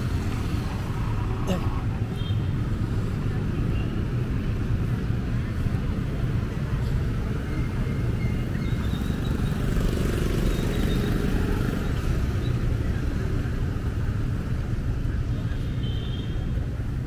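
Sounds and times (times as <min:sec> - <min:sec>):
traffic passing on wet road: 0:00.0 - 0:15.6.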